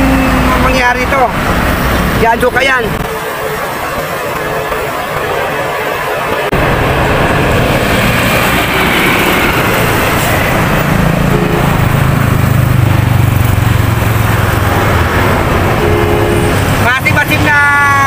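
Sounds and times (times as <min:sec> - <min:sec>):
roadside traffic: 0:00.0 - 0:18.0.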